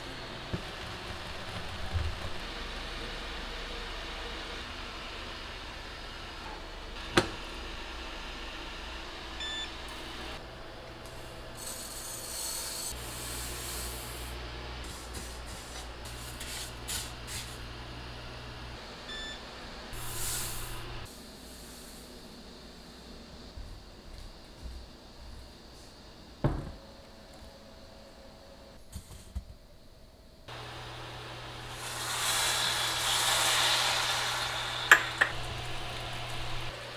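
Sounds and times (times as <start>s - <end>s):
induction cooktop hum: 0.0s - 36.9s.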